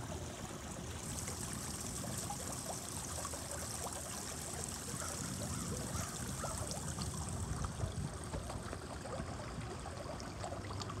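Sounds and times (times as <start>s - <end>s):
water trickling into pond: 0.0s - 11.0s.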